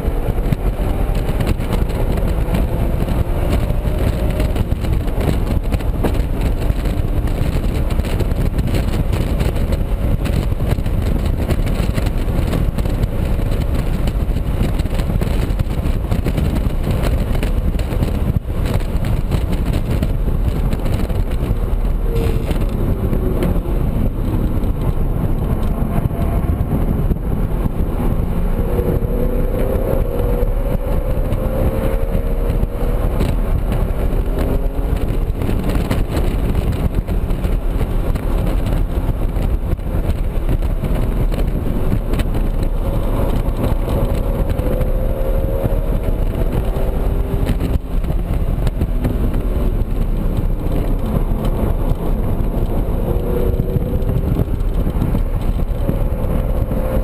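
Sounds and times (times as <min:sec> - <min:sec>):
car engine: 0:00.0 - 0:57.0
wind and road noise: 0:00.0 - 0:57.0.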